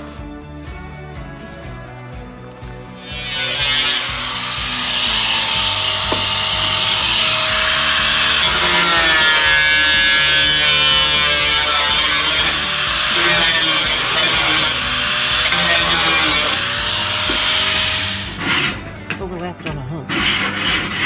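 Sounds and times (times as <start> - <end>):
background music: 0.0 - 21.0
angle grinder cutting metal: 3.0 - 19.2, 20.0 - 21.0.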